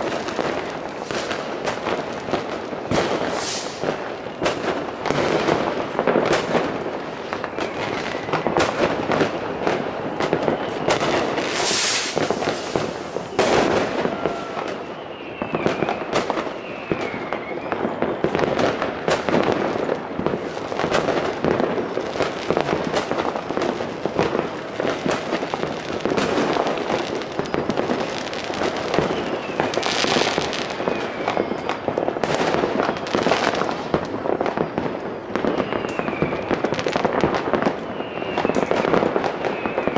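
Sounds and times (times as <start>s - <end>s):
firecracker cracks and rocket bangs: 0.0s - 39.9s
whistling rockets: 0.0s - 39.9s.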